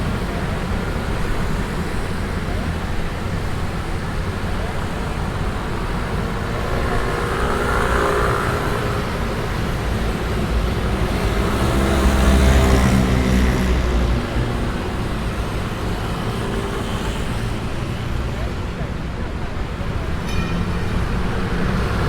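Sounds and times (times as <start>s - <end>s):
motor scooter engines humming: 0.0s - 22.0s
traffic rumble: 0.0s - 22.0s.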